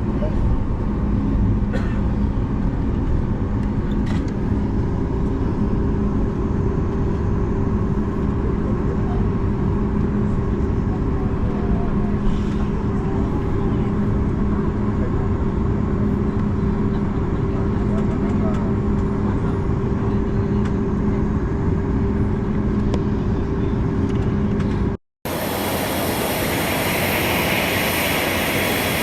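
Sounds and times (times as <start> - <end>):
constant low hum: 0.0 - 29.0
jet engine rumble in cabin: 0.0 - 29.0.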